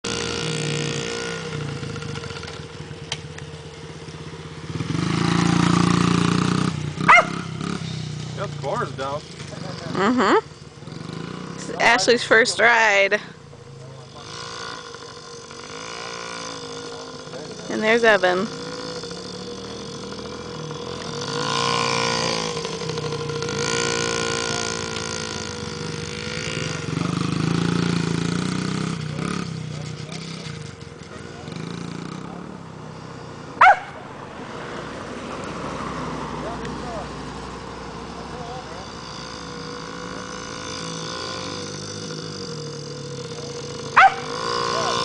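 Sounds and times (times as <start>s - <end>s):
two-stroke minibike engine: 0.0s - 45.0s.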